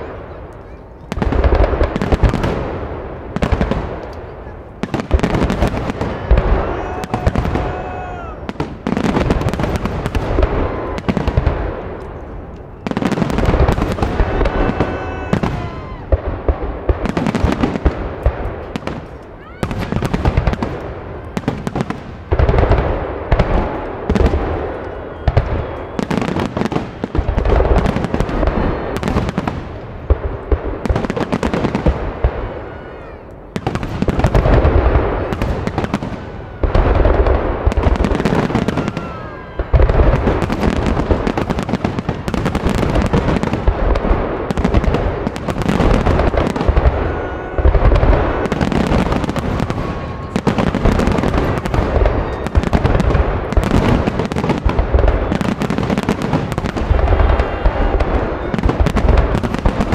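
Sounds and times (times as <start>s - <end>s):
fireworks booming overhead: 0.0s - 59.9s.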